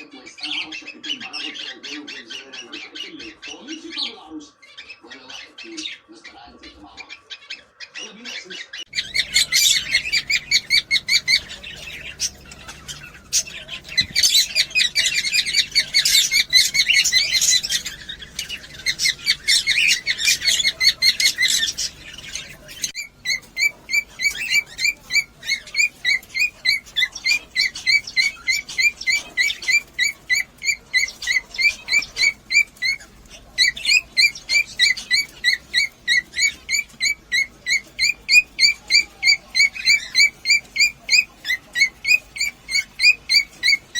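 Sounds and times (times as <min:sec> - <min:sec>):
cockatiels chirping and chattering: 0:00.0 - 0:43.9.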